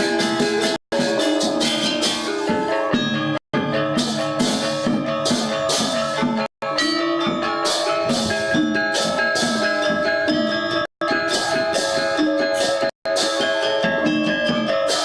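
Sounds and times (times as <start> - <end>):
drumming: 0.0 - 15.0
gamelan ensemble playing: 0.0 - 15.0.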